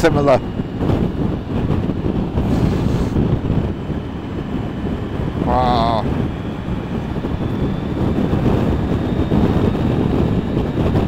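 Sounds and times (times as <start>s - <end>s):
motorcycle engine and road noise: 0.0s - 11.0s
wind rushing over microphone: 0.0s - 11.0s.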